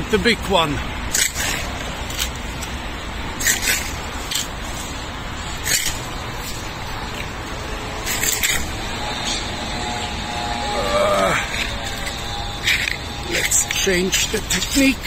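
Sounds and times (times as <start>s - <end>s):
steady background rumble: 0.0s - 15.0s
leaves and twigs rustling: 0.9s - 15.0s.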